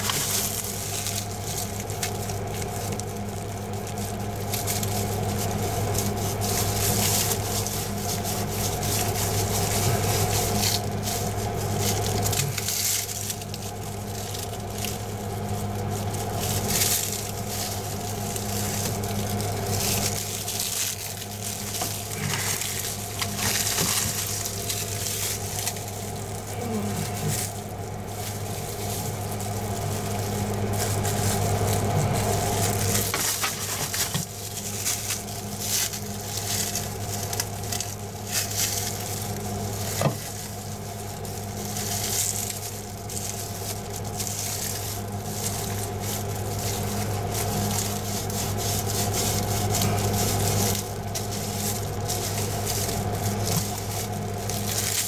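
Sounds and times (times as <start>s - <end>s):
paint roller wet crackling squish: 0.0s - 55.0s
steady low hum: 0.0s - 55.0s.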